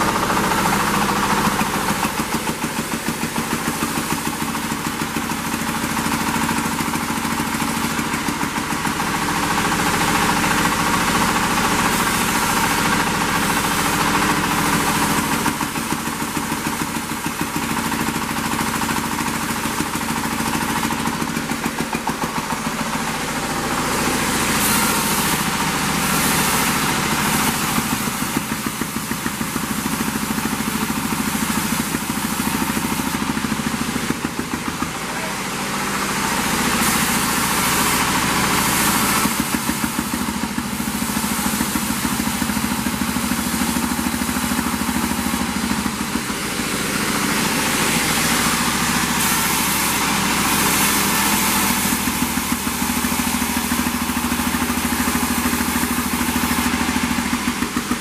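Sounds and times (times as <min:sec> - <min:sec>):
band saw running: 0:00.0 - 0:58.0.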